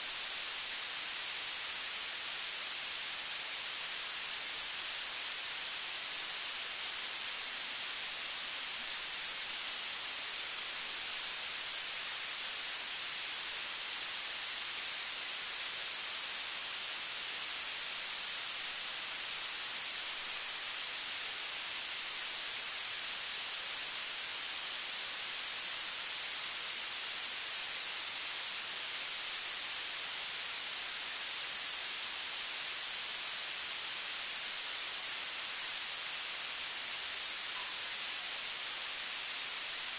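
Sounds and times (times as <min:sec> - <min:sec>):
recording noise hiss: 0:00.0 - 0:39.9.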